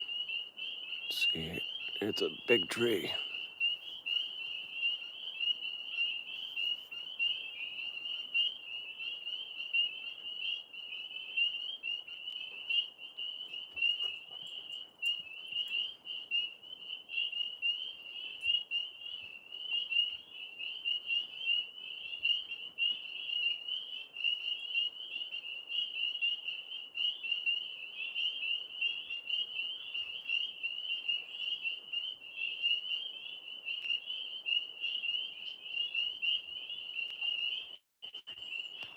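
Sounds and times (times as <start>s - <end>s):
chorus of frogs trilling: 0.0s - 37.7s.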